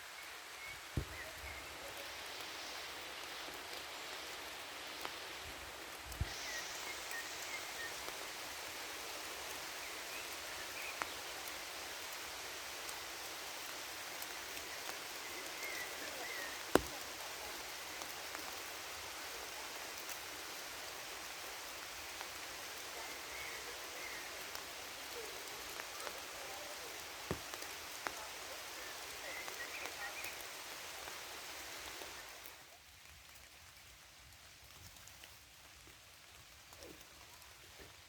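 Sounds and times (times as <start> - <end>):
rain hissing through a forest: 0.0 - 38.0.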